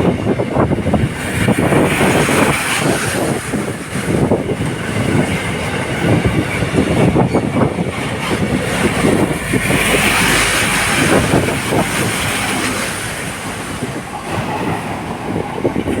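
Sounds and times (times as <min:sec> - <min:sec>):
train wheels clattering over rail joints: 0:00.0 - 0:16.0.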